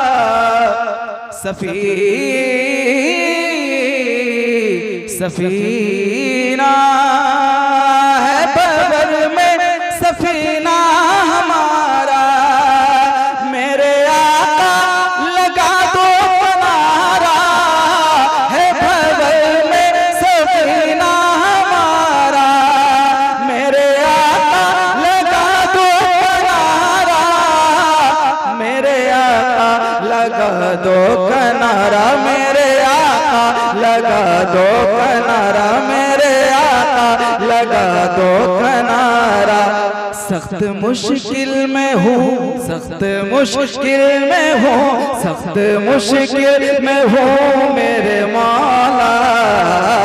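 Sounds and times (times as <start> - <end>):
man singing melismatic phrases: 0.0 - 50.0.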